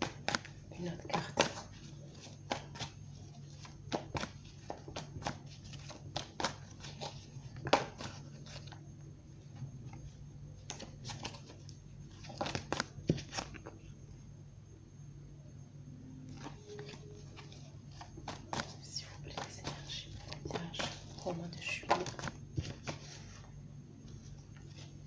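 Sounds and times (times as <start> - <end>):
cards being shuffled: 0.0 - 8.8, 9.9 - 13.9, 16.3 - 25.0
faint low hum: 0.0 - 25.0.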